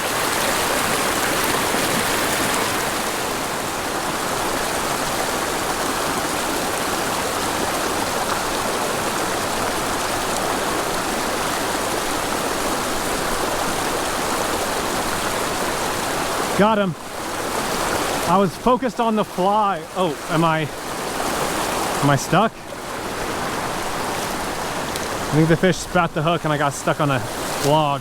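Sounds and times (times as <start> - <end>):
creek rushing over rocks: 0.0 - 28.0.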